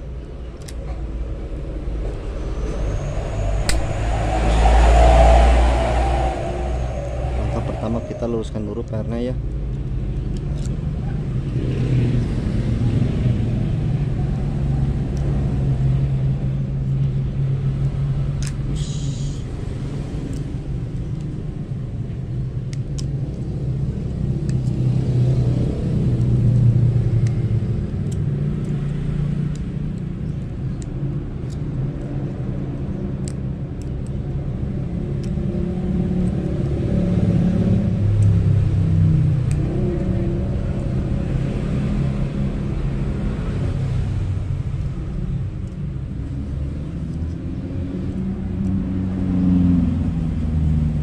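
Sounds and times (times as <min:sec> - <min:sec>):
low engine-like rumble: 0:00.0 - 0:11.6, 0:12.7 - 0:49.0.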